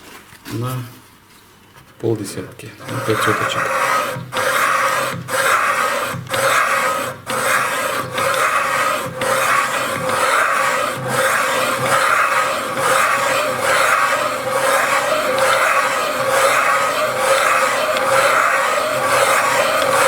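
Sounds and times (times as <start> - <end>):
cutter scraping valve seat: 2.8 - 20.0.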